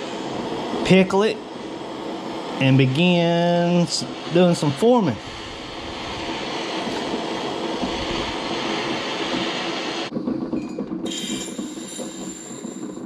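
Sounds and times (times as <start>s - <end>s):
gas torch flame hissing: 0.0s - 13.0s
hiss with thin high whine: 0.0s - 13.0s.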